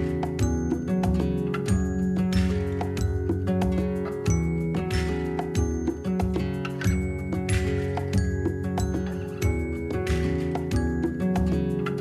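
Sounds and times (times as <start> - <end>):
plucked pitched notes: 0.0 - 12.0.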